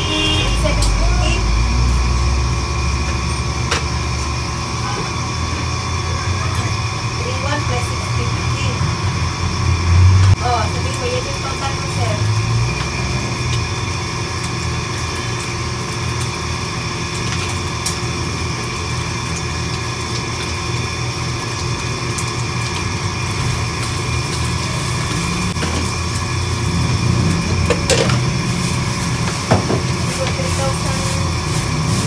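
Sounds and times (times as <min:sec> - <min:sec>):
kitchen stove and fans droning: 0:00.0 - 0:32.0.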